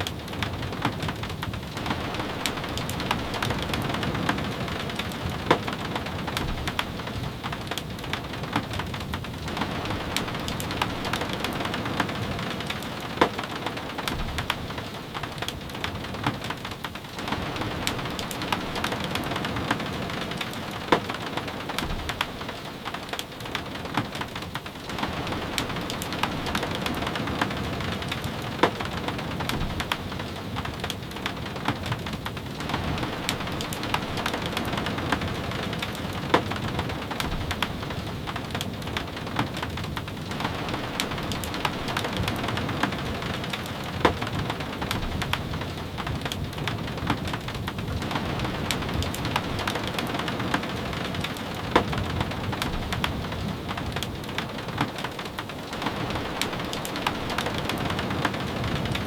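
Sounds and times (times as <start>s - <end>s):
steady rain falling: 0.0s - 59.0s
wood fire popping and crackling: 0.0s - 59.0s.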